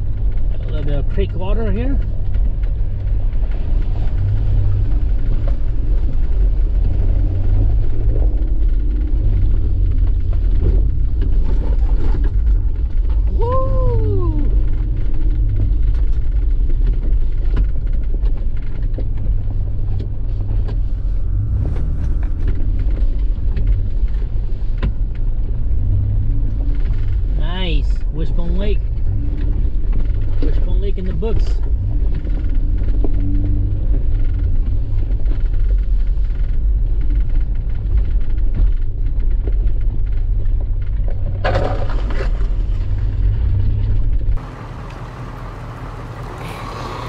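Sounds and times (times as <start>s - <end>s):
truck rumbling: 0.0s - 47.0s.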